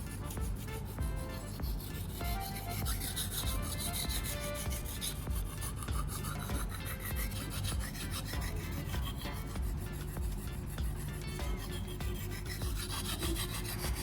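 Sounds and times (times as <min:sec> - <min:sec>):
knife scraping on whetstone: 0:00.0 - 0:14.0.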